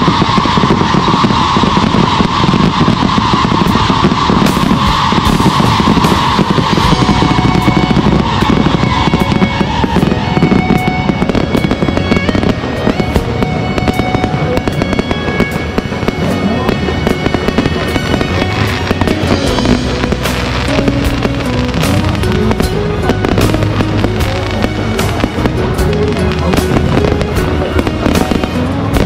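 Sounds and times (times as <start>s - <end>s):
fireworks popping and crackling: 0.0s - 29.0s
music playing: 0.0s - 29.0s.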